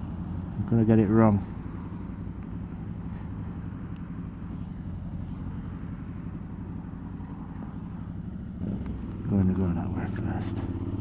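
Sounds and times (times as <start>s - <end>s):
motorcycle engine humming: 0.0s - 11.0s.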